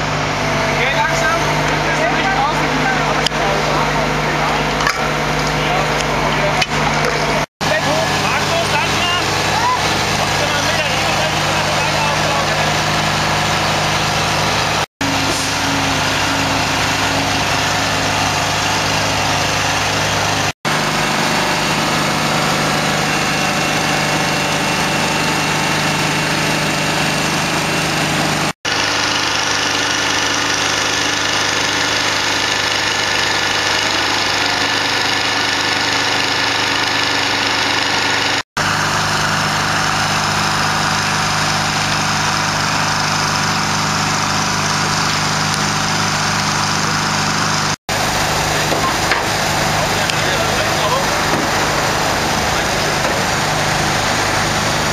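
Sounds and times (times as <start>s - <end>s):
heavy engines idling: 0.0s - 54.9s.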